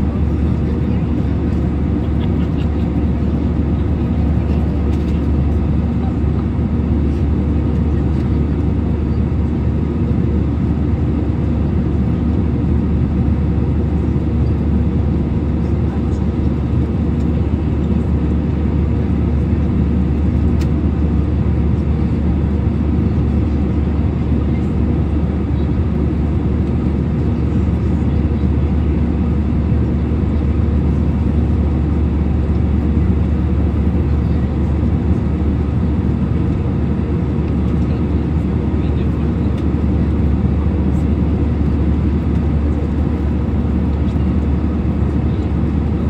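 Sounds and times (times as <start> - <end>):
airliner cabin engine rumble: 0.0 - 46.0.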